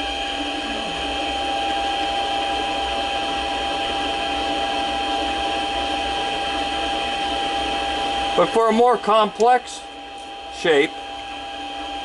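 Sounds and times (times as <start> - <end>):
lathe high whine: 0.0 - 12.0.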